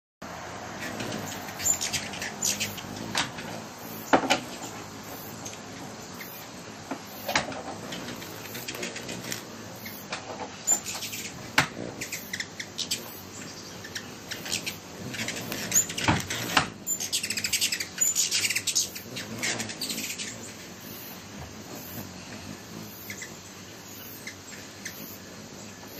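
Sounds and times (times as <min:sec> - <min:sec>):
hummingbird wings whirring: 0:00.2 - 0:25.9.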